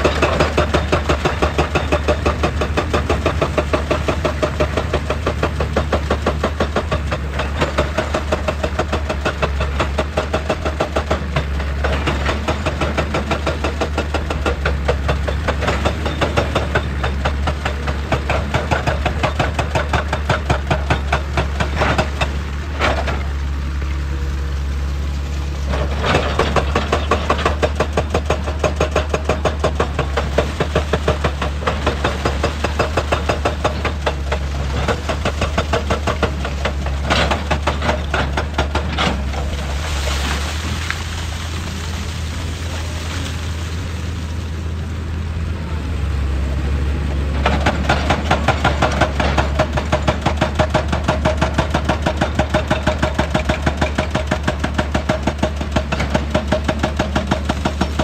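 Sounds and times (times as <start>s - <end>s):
hydraulic breaker hammering rock: 0.0s - 23.3s, 25.7s - 41.0s, 47.4s - 58.0s
diesel engine drone: 0.0s - 58.0s.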